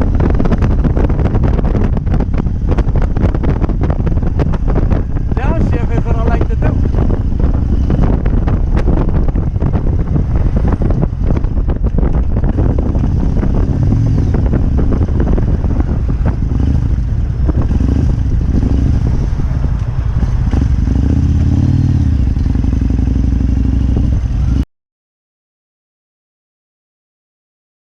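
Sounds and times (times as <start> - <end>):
motorcycle engine running: 0.0 - 24.6
wind buffeting microphone: 0.0 - 24.6.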